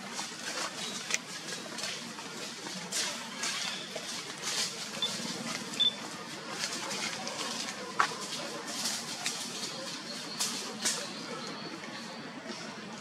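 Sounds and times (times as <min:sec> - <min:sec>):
crackling and rustling: 0:00.0 - 0:13.0.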